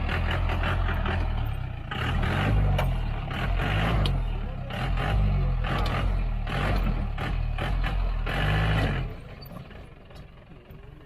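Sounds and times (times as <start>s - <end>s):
vehicle engine surging: 0.0s - 11.0s.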